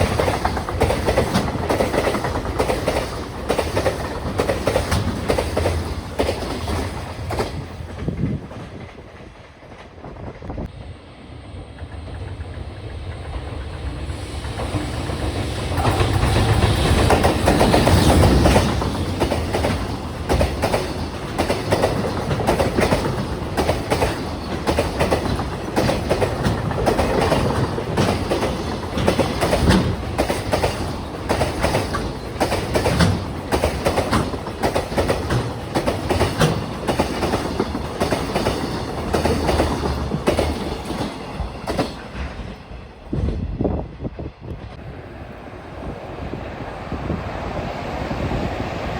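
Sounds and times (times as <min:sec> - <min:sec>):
train wheels clattering on rails: 0:00.0 - 0:10.8, 0:11.6 - 0:44.8.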